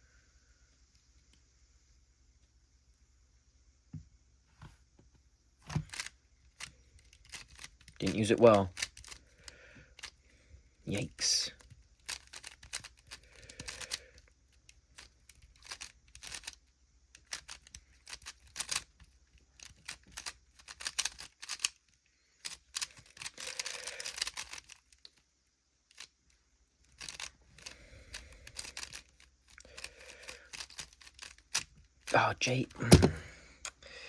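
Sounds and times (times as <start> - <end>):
puzzle cube plastic clicks: 5.7 - 33.8.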